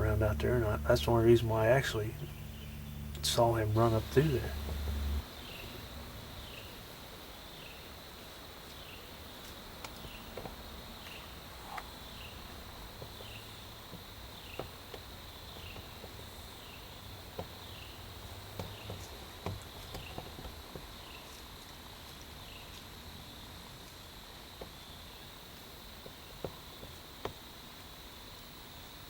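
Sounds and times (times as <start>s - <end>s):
insects chirping: 0.0s - 29.0s
faint ticks and rustles: 1.4s - 29.0s.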